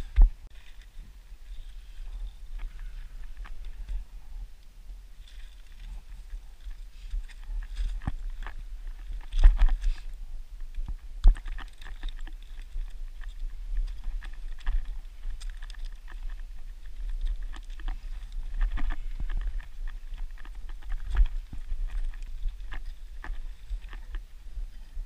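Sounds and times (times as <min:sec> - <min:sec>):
trekking poles clicking on stone: 0:00.0 - 0:04.2, 0:05.2 - 0:25.0
wind rumble on microphone: 0:00.0 - 0:25.0.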